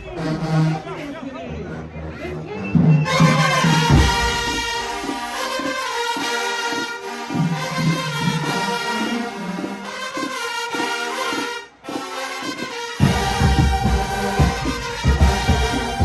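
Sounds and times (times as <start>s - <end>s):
marching band playing brass tune: 0.0s - 16.0s.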